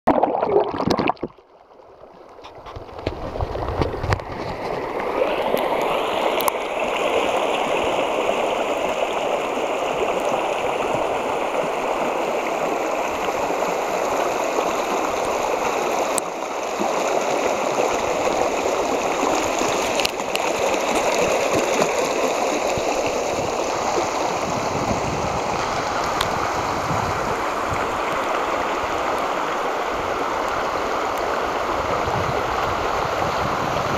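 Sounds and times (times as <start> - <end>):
water rushing over rocks: 0.1 - 1.5, 2.7 - 33.9.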